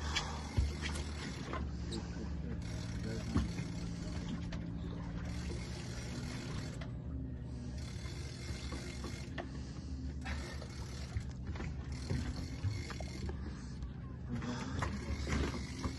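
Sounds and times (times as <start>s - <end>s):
boat engine low hum: 0.0s - 15.9s
fishing reel ratcheting whirr: 0.3s - 7.0s, 7.7s - 13.4s, 15.0s - 15.9s.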